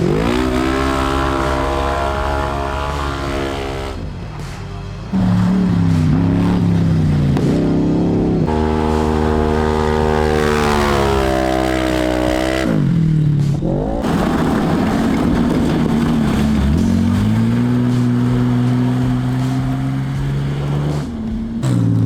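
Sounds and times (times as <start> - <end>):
side-by-side engine revving: 0.0 - 22.0.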